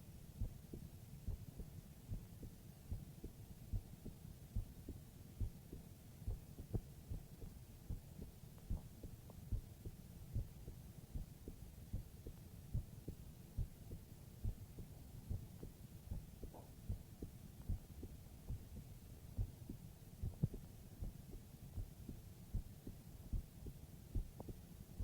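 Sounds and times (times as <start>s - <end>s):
heartbeat thumps: 0.4s - 24.6s.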